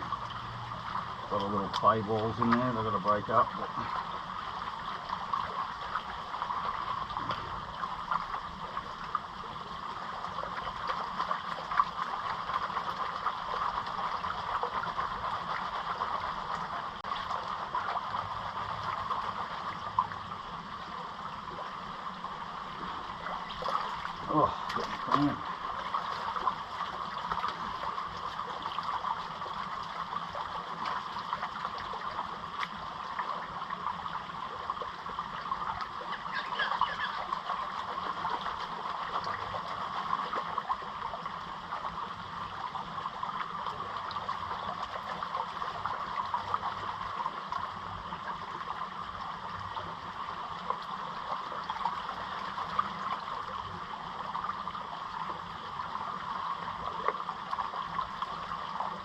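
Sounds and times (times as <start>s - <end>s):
fast-flowing creek water: 0.0s - 59.0s.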